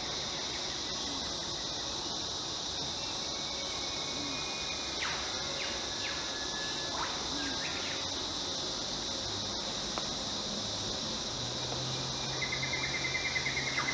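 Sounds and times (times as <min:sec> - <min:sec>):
high-pitched insect chorus: 0:00.0 - 0:13.9.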